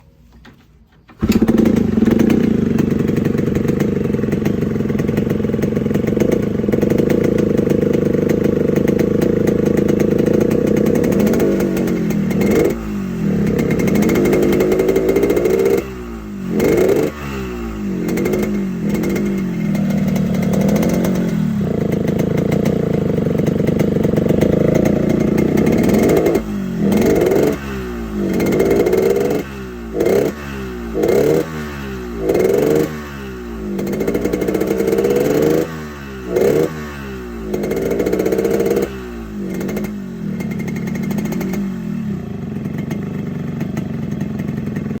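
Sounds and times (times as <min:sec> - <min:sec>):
motorcycle engine revving: 0:01.1 - 0:45.0.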